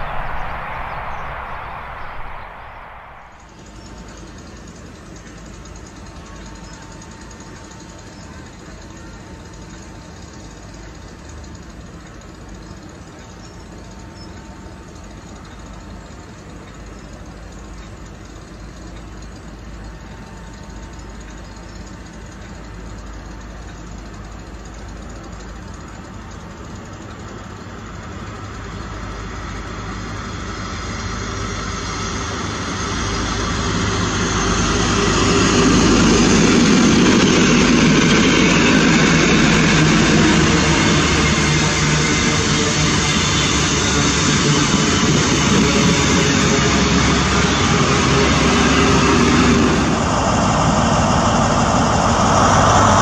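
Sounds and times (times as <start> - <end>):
diesel train engine drone: 0.0 - 53.0
rail noise: 0.0 - 53.0.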